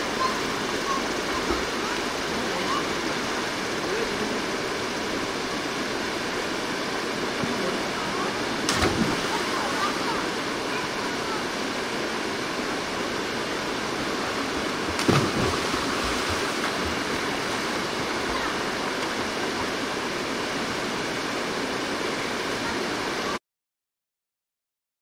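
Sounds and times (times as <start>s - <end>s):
stream rapids rushing: 0.0s - 23.4s.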